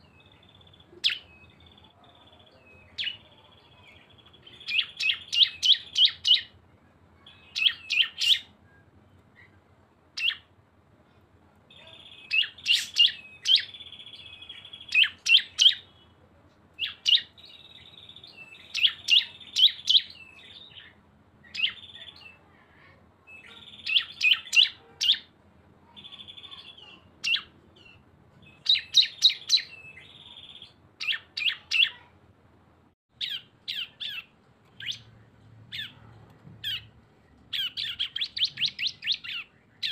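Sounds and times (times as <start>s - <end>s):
bird singing buzzy trill: 0.0s - 9.6s, 10.2s - 10.5s, 11.7s - 16.2s, 16.8s - 22.5s, 23.3s - 25.3s, 25.9s - 32.1s, 33.1s - 35.1s, 36.6s - 39.9s.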